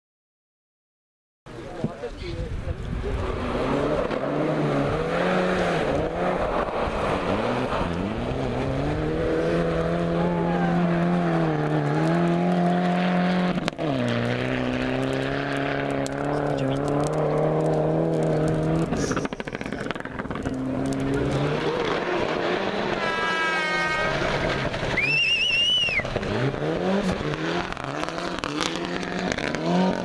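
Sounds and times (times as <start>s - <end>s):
rally car engine revving: 2.6s - 30.0s.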